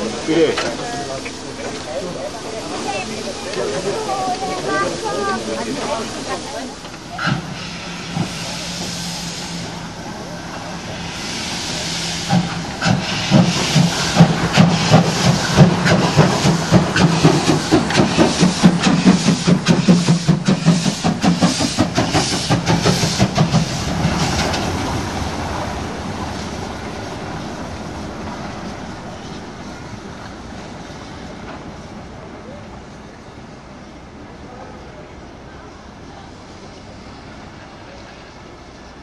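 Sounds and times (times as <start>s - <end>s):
steam hiss: 0.0s - 39.0s
steam locomotive exhaust beats: 0.0s - 39.0s.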